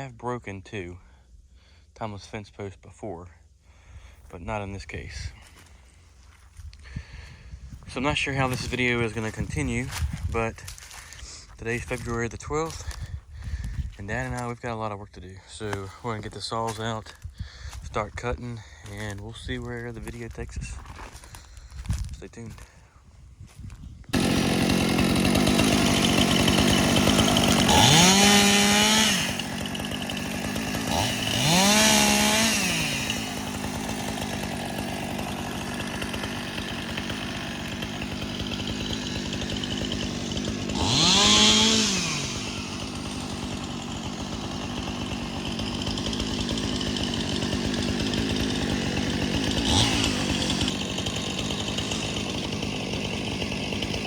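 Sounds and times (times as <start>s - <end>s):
chainsaw running and revving: 5.0s - 14.4s, 15.4s - 22.7s, 24.1s - 54.0s.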